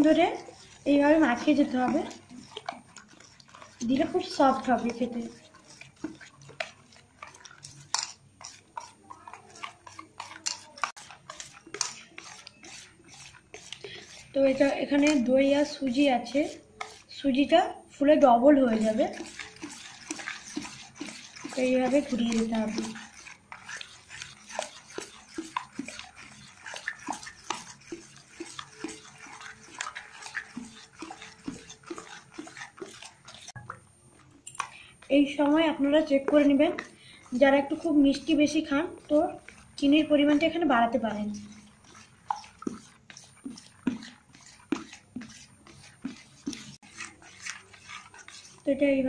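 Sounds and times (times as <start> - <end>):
batter squelching in steel bowl: 0.0 - 49.0.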